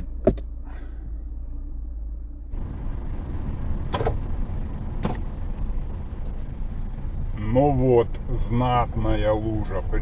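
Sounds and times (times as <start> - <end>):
car engine hum: 0.0 - 10.0.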